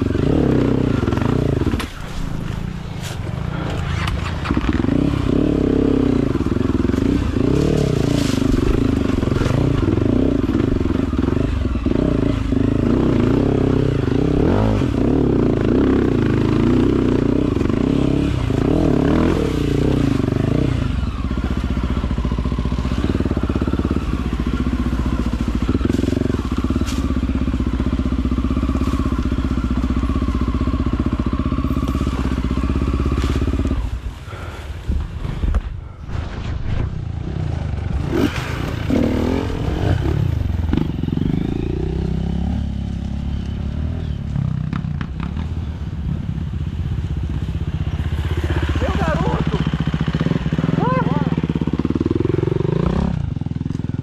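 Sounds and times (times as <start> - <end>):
motorcycle engine revving: 0.0 - 36.0, 36.7 - 54.0.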